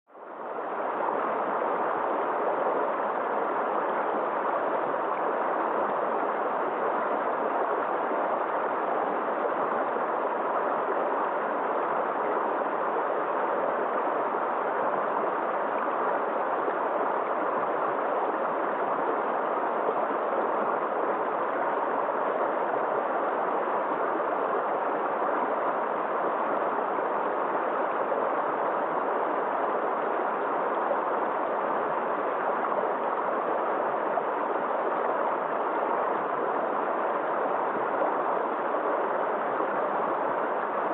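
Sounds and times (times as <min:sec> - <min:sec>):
rushing gurgling water: 0:00.1 - 0:40.9.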